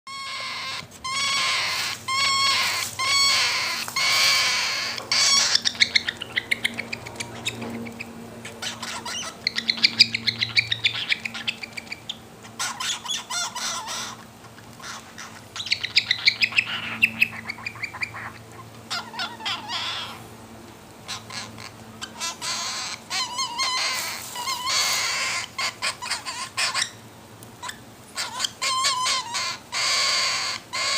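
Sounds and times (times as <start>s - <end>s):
cockatiel squawking: 0.1s - 20.2s, 21.1s - 27.0s, 27.6s - 30.9s
cockatiel pulsing chatter: 0.1s - 20.3s, 21.0s - 27.0s, 27.6s - 30.9s.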